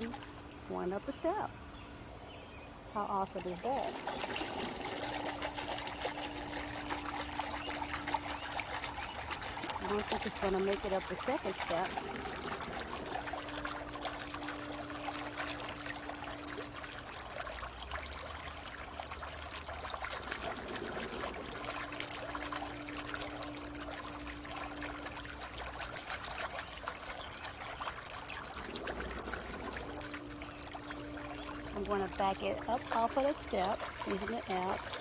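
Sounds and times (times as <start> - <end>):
motor hum: 0.0 - 35.0
water trickling and splashing: 0.0 - 35.0.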